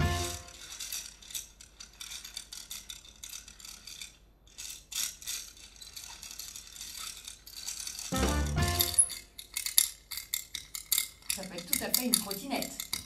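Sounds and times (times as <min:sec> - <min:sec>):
object rattling in clicking runs: 0:00.0 - 0:13.0.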